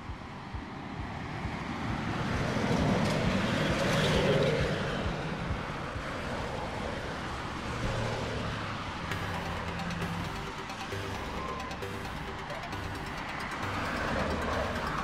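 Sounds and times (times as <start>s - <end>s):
steady traffic rumble: 0.0s - 15.0s.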